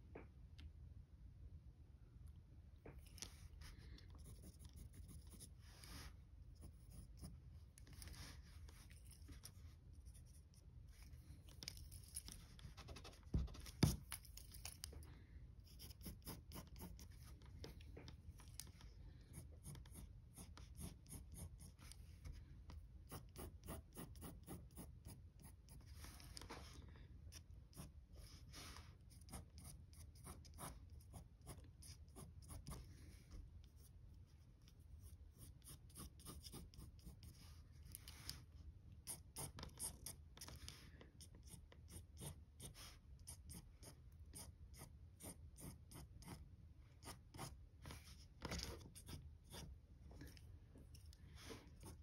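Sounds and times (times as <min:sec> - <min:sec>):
pencil scratching on paper: 0:03.0 - 0:14.7, 0:15.6 - 0:50.4, 0:51.2 - 0:52.0.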